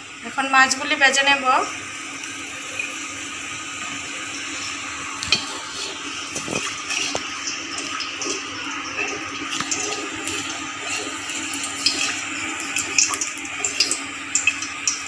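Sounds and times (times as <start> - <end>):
oil hissing in a wok: 0.3 - 15.0.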